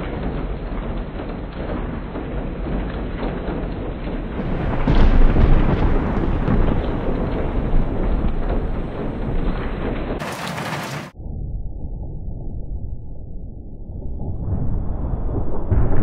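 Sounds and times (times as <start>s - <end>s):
muffled thunder rumble: 0.0s - 16.0s
thunder rumbling: 0.0s - 16.0s.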